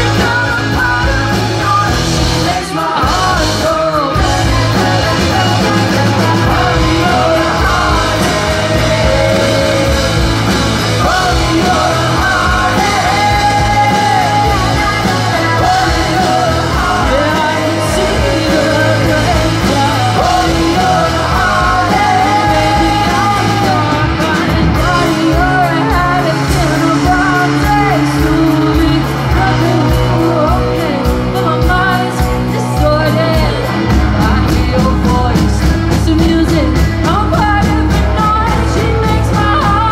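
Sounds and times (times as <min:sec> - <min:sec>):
drum kit: 0:00.0 - 0:39.9
electric bass guitar: 0:00.0 - 0:39.9
electric guitars: 0:00.0 - 0:39.9
woman singing: 0:00.0 - 0:39.9.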